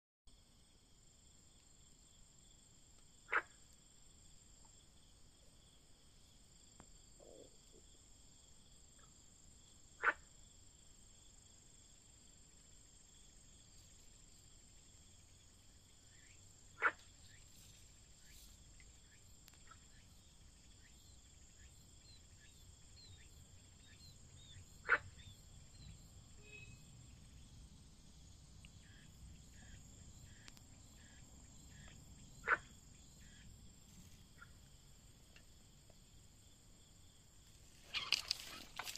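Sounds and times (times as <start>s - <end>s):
insects trilling: 0.4s - 38.9s.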